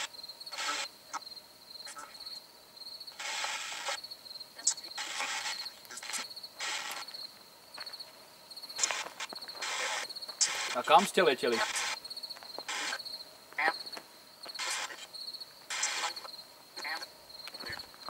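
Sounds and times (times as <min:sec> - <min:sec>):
cricket chirping: 0:00.0 - 0:18.0
static bursts from ghost box: 0:00.0 - 0:18.0.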